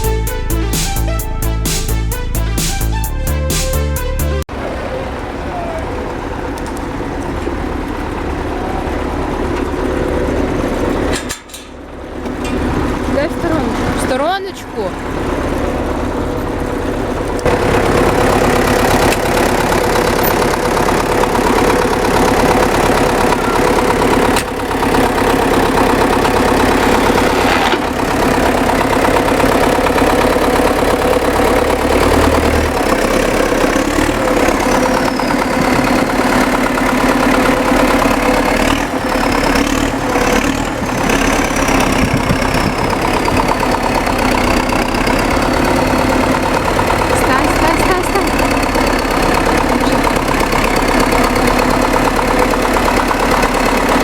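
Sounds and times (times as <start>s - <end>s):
tractor diesel engine idling: 0.0s - 3.4s, 4.2s - 54.0s.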